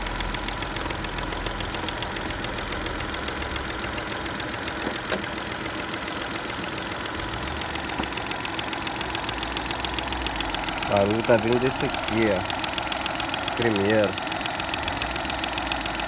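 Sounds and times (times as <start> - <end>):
car engine idling: 0.0 - 16.0
rapid ticking rattle of injector: 0.0 - 16.0.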